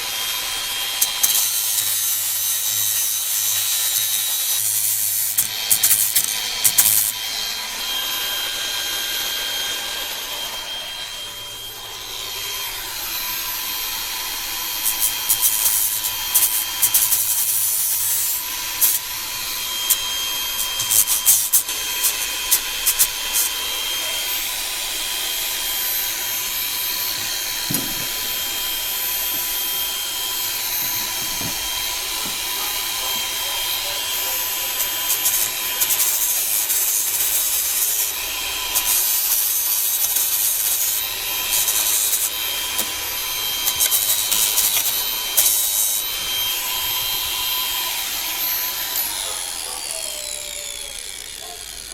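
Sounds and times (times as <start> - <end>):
abrasive tool rasping on metal: 0.0 - 8.2, 13.7 - 51.9.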